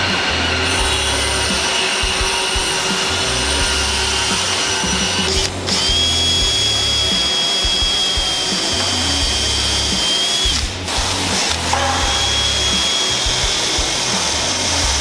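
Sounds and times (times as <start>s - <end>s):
cordless drill boring wood: 0.0s - 15.0s.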